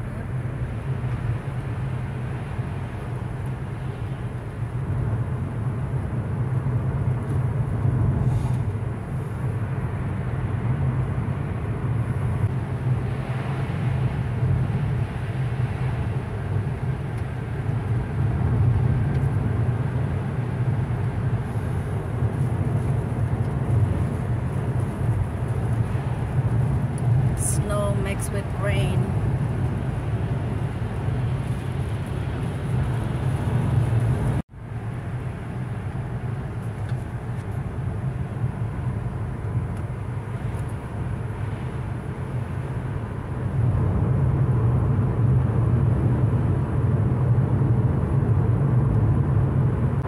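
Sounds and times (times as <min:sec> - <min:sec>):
car cabin road rumble: 0:00.0 - 0:50.0.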